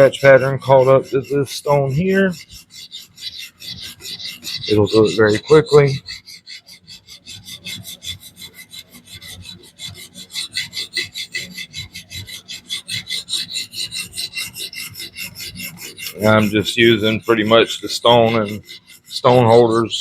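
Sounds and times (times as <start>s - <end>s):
knife rasping on sharpening plate: 0.0s - 20.0s.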